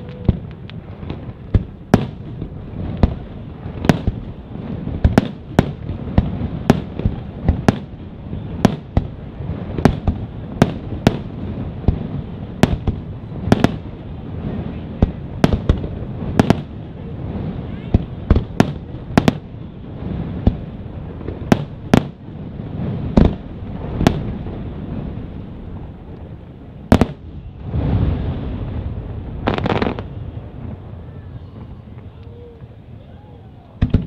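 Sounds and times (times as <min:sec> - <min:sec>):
continuous low rumble: 0:00.0 - 0:34.0.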